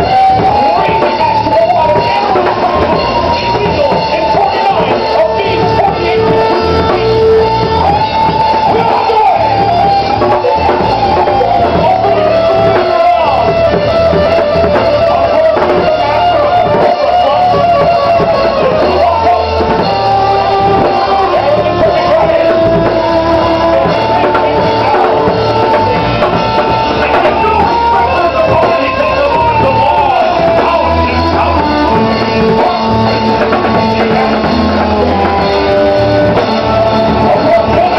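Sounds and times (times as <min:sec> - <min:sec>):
loud music with guitar: 0:00.0 - 0:37.9.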